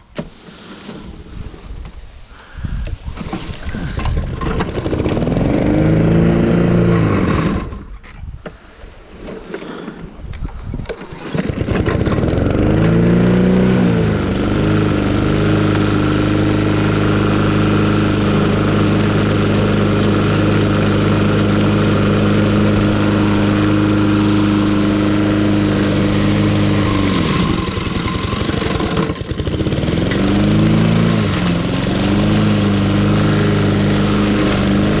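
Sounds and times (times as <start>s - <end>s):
engine running: 3.5s - 8.0s, 11.4s - 35.0s.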